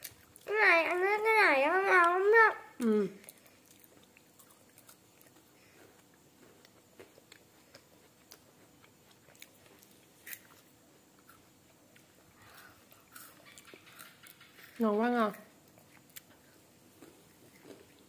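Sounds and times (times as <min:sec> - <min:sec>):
child chewing crispy snack: 0:00.0 - 0:01.2, 0:01.8 - 0:18.0.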